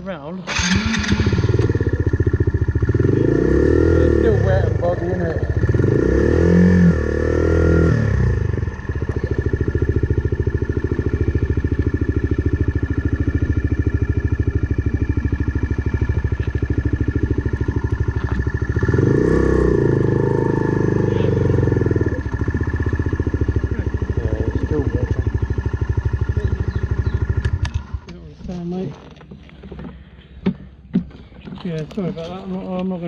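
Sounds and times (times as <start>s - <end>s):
motorcycle engine idling: 0.4s - 33.0s.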